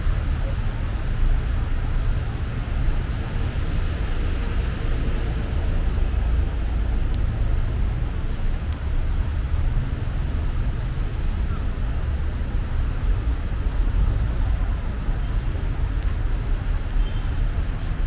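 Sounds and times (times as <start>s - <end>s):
passing road vehicles: 0.0s - 18.0s.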